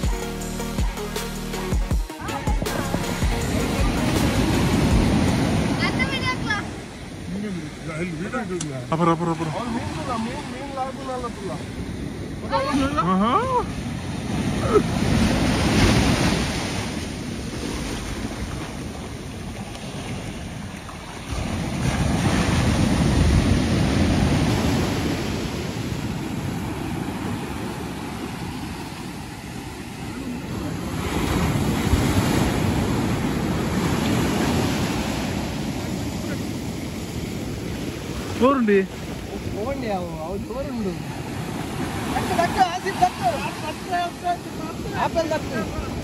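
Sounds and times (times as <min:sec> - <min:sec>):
ocean surf breaking: 0:01.6 - 0:46.0.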